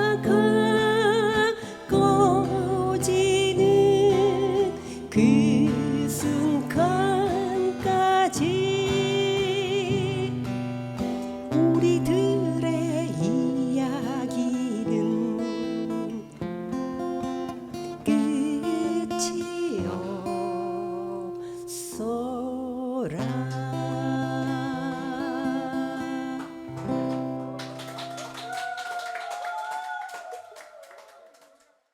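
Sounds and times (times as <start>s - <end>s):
person singing: 0.0s - 16.4s, 17.6s - 27.1s
acoustic guitars playing folk: 0.0s - 28.1s.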